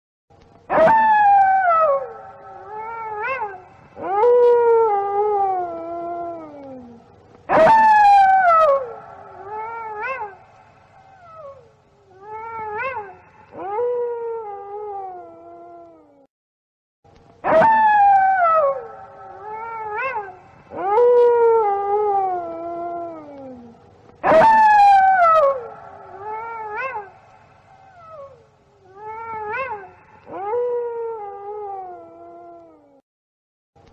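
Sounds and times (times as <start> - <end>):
wolves howling: 0.7 - 16.0, 17.4 - 33.0.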